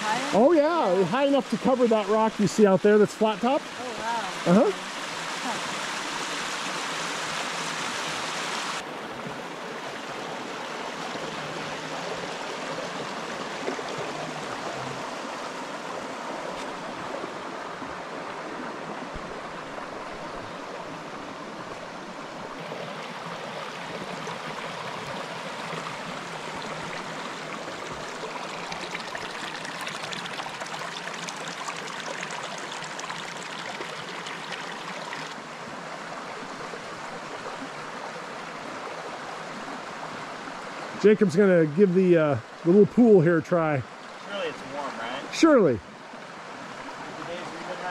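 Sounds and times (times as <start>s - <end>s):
stream babbling over stones: 0.0s - 47.9s.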